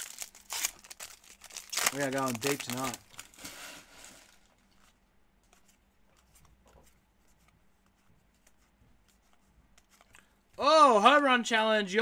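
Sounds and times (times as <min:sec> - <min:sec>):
rustle of cards being handled: 0:00.0 - 0:10.6.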